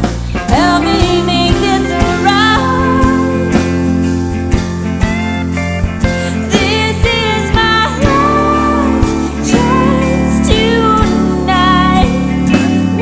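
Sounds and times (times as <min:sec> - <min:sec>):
country band playing: 0:00.0 - 0:13.0
sliding lead melody: 0:00.0 - 0:13.0
steady drum beat: 0:00.0 - 0:13.0.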